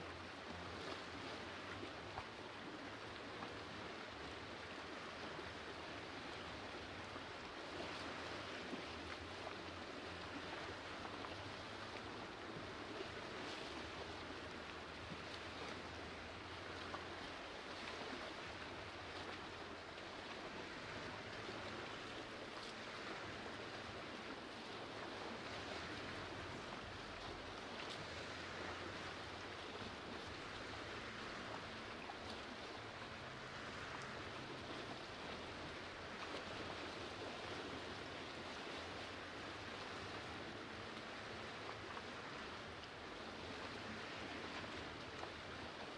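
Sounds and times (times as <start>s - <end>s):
waves lapping against boulders: 0.0s - 45.9s.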